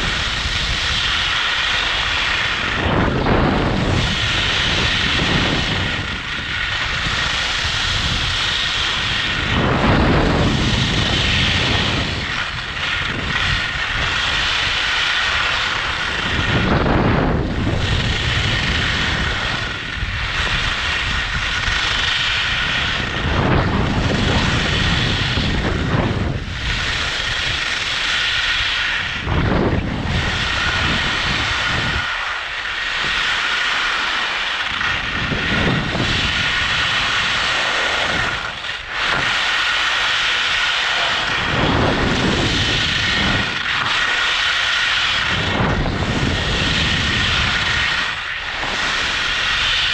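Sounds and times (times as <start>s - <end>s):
ski edges scraping: 0.0s - 49.9s
skis hissing on snow: 0.0s - 49.9s
wind rushing: 0.0s - 49.9s.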